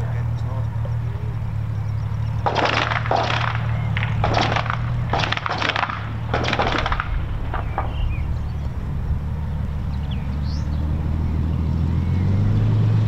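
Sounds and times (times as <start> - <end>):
aircraft engine droning: 0.0 - 13.0
engine crackling and popping: 0.0 - 13.0.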